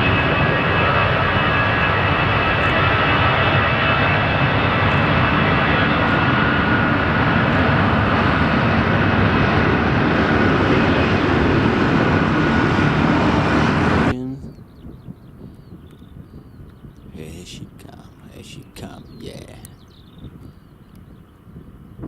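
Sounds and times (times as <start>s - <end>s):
jet engines roaring with whine: 0.0s - 22.0s.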